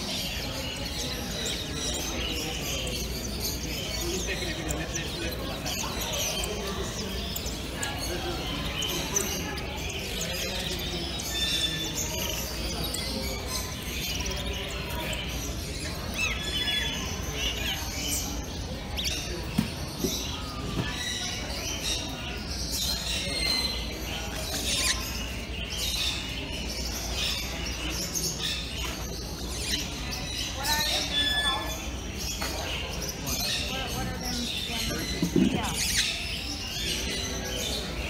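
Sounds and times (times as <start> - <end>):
caged birds chirping and whistling: 0.0 - 38.0.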